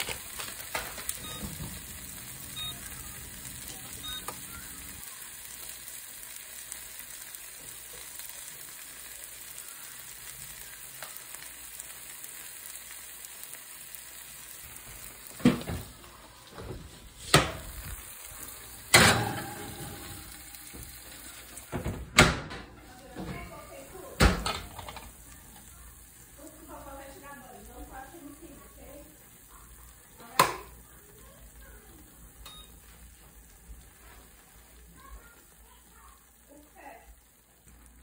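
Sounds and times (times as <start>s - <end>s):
omelet sizzling in frying pan: 0.0s - 38.0s.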